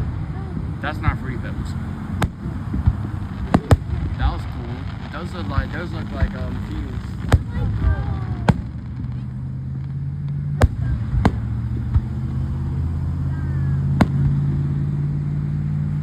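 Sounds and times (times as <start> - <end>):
fireworks bangs: 0.0 - 15.0
car engine humming: 0.0 - 16.0.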